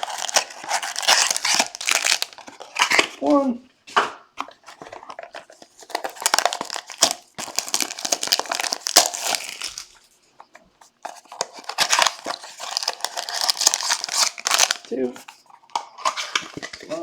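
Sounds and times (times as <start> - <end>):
wrapping crinkling and tearing: 0.0 - 3.3, 4.6 - 10.2, 10.9 - 17.0.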